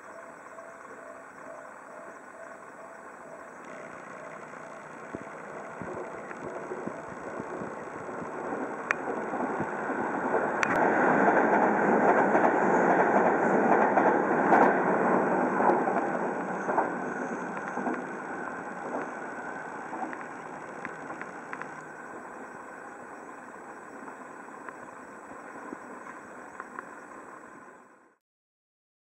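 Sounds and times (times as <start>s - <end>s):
train wheels rushing on rails: 1.3s - 27.9s.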